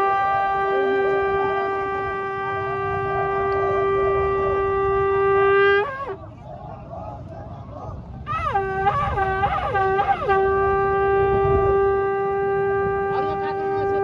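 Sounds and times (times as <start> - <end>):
conch shell blast: 0.0 - 6.2, 8.3 - 14.0.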